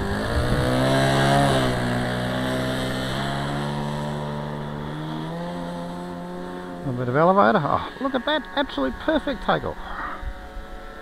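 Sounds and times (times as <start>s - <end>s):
model airplane engine at full throttle: 0.0s - 11.0s.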